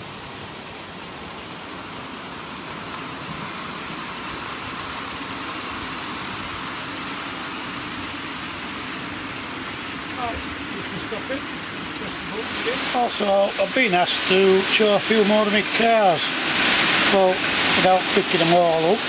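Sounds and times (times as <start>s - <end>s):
model train rumbling hum: 0.0s - 19.0s.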